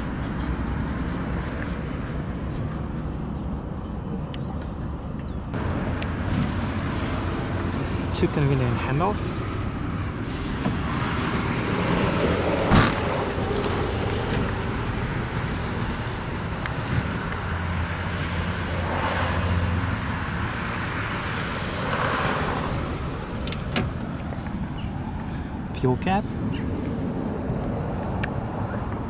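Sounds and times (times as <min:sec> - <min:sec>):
outdoor traffic: 0:00.0 - 0:29.0
wind: 0:00.0 - 0:29.0.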